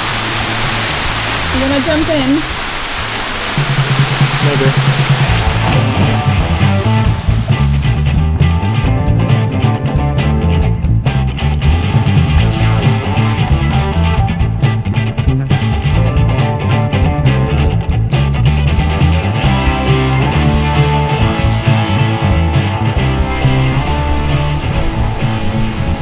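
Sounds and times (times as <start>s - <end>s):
rock music with guitar and bass: 3.7s - 26.0s.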